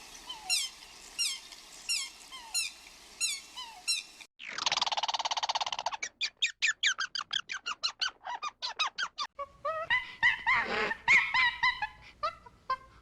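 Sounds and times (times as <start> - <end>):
small animal squeaking calls: 0.2 - 12.8.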